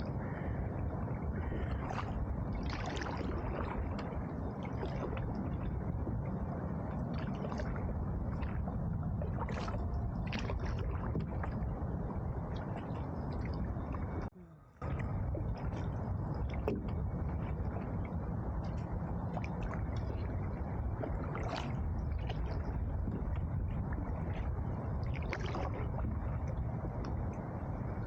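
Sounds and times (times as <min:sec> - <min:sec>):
paddle splashes: 0:00.0 - 0:06.3, 0:06.9 - 0:27.1
water sloshing around canoe: 0:00.0 - 0:27.2
low rumble: 0:00.0 - 0:28.0.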